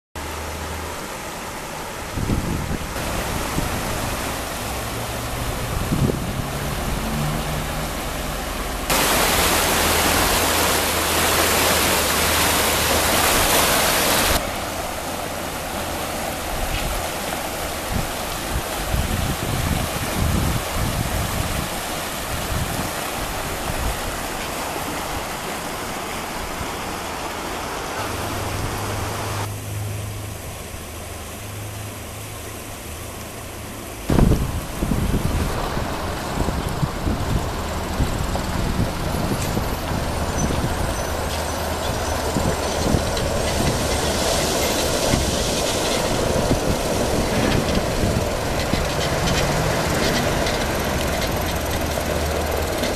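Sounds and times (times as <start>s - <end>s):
river water rushing: 0.2s - 52.9s.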